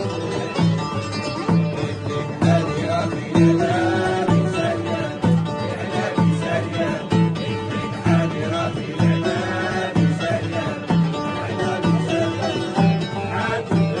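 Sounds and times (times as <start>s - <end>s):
music with strong beat: 0.0s - 14.0s.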